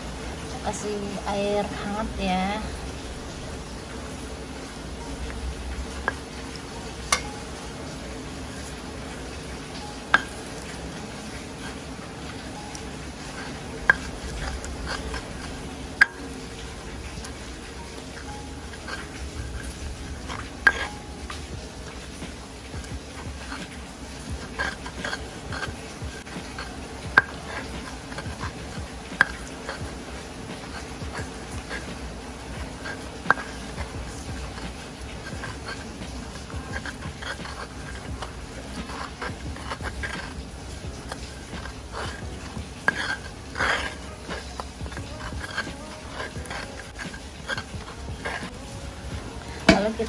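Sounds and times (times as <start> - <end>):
stone pestle scraping wet paste: 1.6 - 7.7, 8.4 - 50.0.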